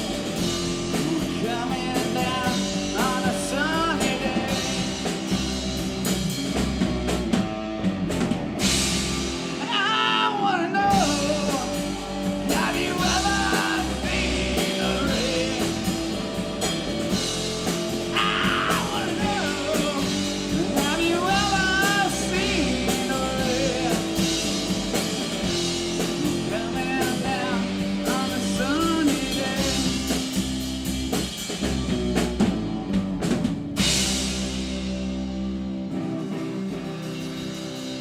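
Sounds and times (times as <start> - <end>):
live rock band playing: 0.0 - 38.0.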